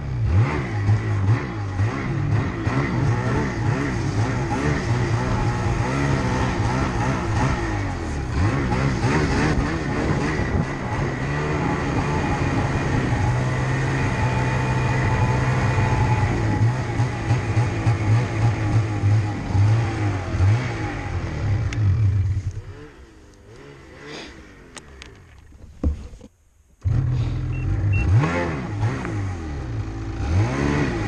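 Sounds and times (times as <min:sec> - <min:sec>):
snowmobile engine revving: 0:00.0 - 0:25.3, 0:26.8 - 0:31.0.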